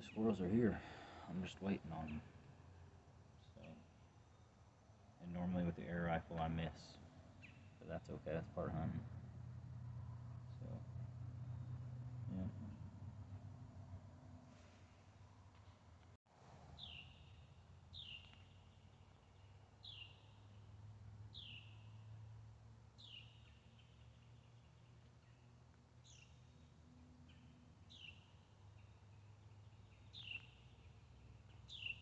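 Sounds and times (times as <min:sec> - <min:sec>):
low outdoor rumble: 0:04.9 - 0:31.8.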